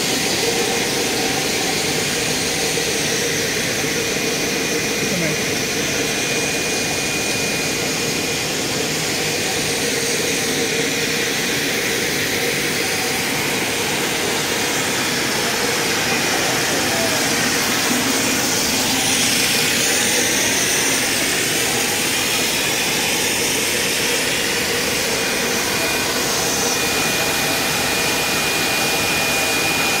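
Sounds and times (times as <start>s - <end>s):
machine motors humming and hissing: 0.0s - 30.0s.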